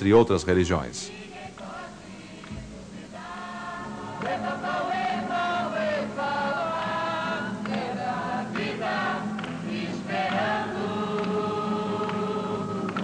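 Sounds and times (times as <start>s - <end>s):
group of young voices singing: 1.0s - 13.0s
acoustic guitars: 1.1s - 13.0s.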